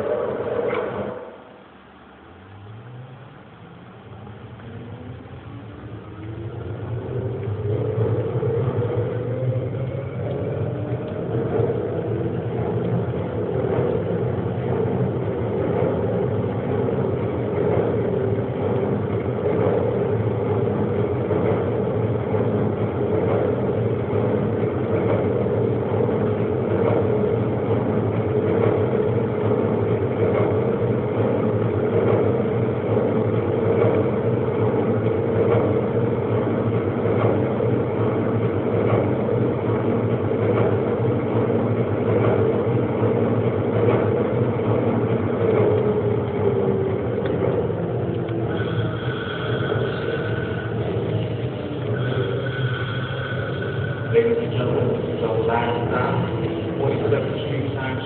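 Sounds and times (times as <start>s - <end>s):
train rumble: 0.0s - 58.0s
train traction motor whine: 0.0s - 58.0s.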